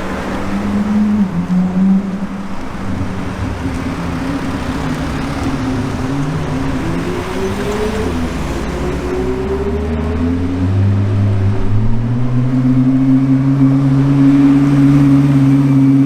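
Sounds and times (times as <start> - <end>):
car engine accelerating: 0.0 - 16.0
road and tyre noise: 0.0 - 16.0.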